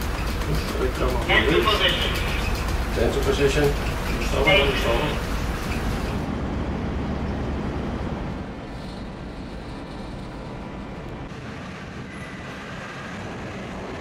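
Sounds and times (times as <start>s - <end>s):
low machinery rumble: 0.0s - 14.0s.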